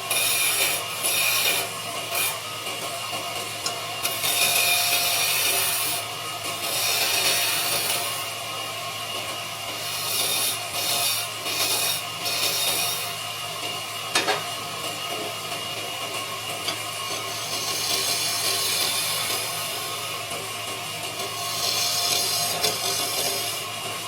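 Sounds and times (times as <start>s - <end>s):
wood lathe motor hum: 0.0s - 24.0s.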